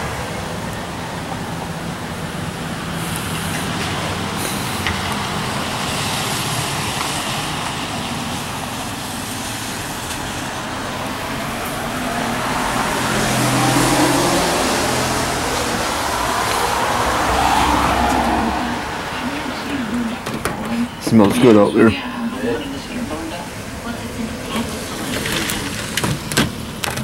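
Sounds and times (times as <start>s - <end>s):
traffic on a wet road: 0.0s - 27.0s.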